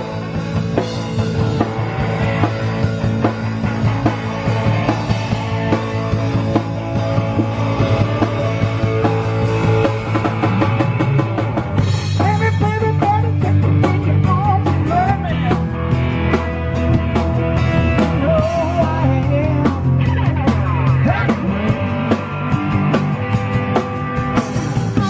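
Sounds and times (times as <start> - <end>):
drum kit beat: 0.0 - 25.0
electric guitar: 0.0 - 25.0.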